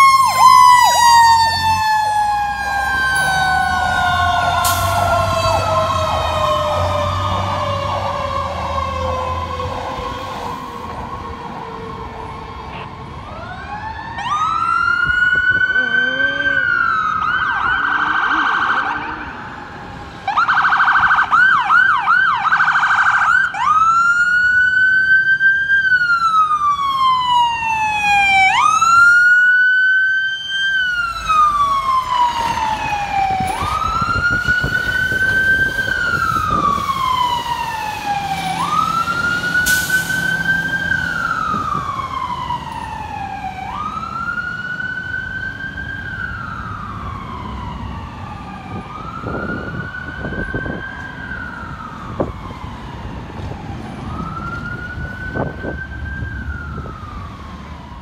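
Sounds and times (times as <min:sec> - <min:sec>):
truck engine rumbling: 0:00.0 - 0:29.3, 0:30.7 - 0:58.0
fire truck siren: 0:00.0 - 0:58.0
traffic rumbling: 0:00.0 - 0:58.0.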